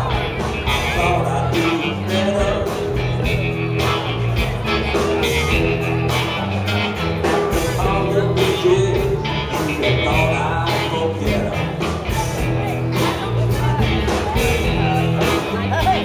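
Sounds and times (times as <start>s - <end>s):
drums: 0.0s - 16.0s
electric bass: 0.0s - 16.0s
electric guitars: 0.0s - 16.0s
keyboards: 0.0s - 16.0s.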